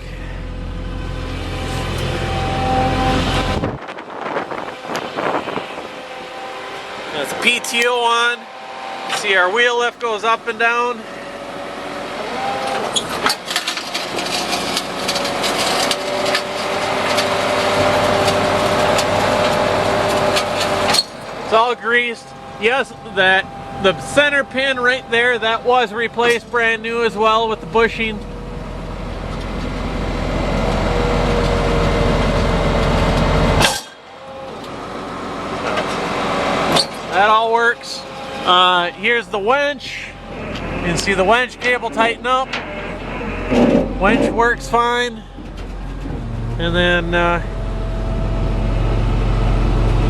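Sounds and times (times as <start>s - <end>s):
diesel engine running: 0.0s - 50.0s
hydraulic pump hum: 0.0s - 50.0s.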